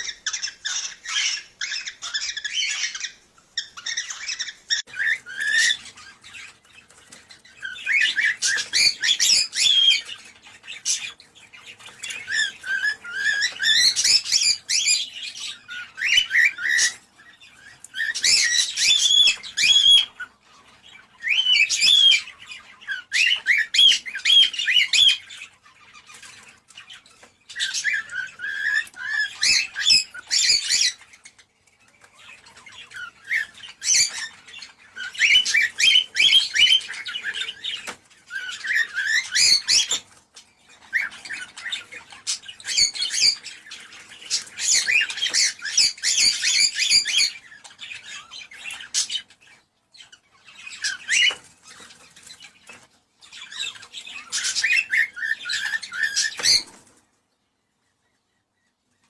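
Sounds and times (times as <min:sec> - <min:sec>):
cockatiels chirping and warbling: 0:00.0 - 0:59.0.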